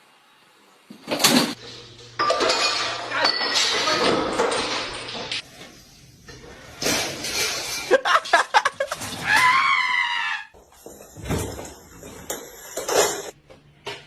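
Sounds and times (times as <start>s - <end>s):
objects clattering and knocking: 0.9s - 9.6s, 10.6s - 14.0s.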